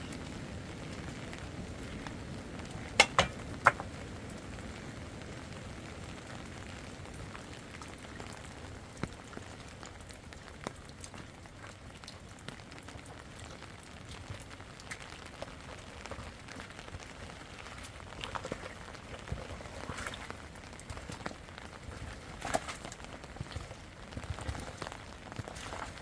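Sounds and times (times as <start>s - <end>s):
raindrops ticking on a surface: 0.0s - 26.0s.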